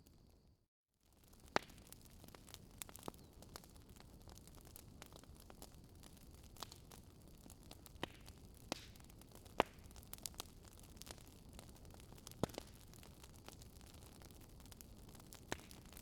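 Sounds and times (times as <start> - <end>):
wood bonfire crackling: 0.0 - 16.0.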